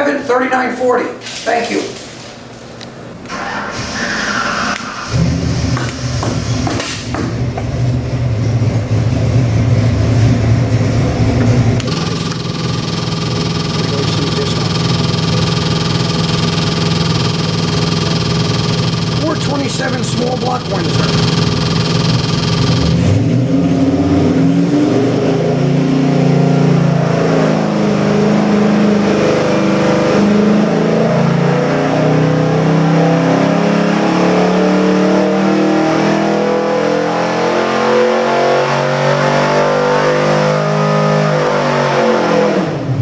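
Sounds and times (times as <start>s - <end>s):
engine revving on a dyno: 3.3s - 43.0s.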